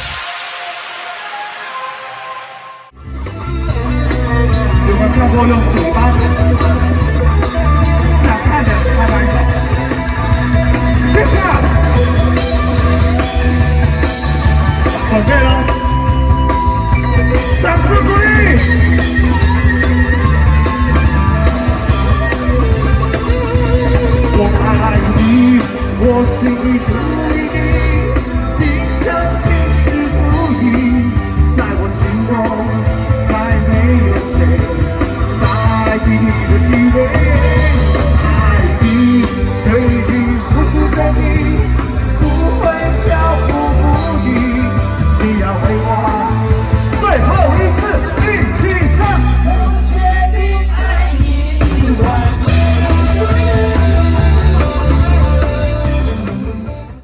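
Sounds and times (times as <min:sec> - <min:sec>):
rock band playing live: 0:00.0 - 0:57.0
person singing: 0:03.7 - 0:57.0.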